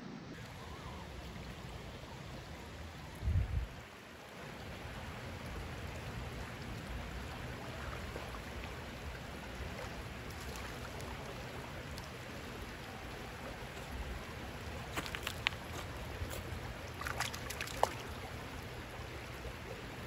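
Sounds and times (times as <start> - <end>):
creek water rushing over stones: 0.3 - 20.0.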